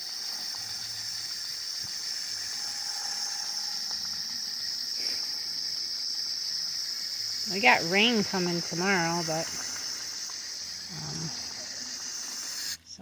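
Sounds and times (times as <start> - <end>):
crickets chorus: 0.0 - 13.0.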